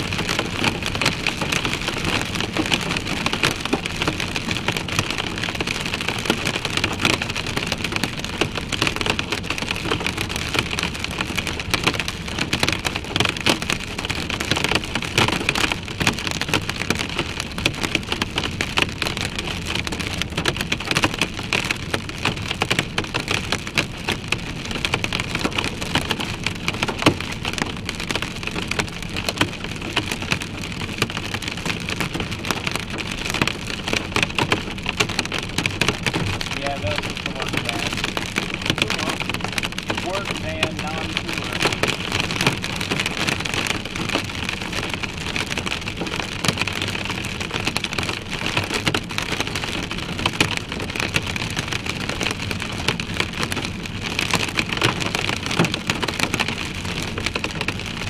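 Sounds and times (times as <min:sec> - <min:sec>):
heavy rain on vehicle roof: 0:00.0 - 0:58.0.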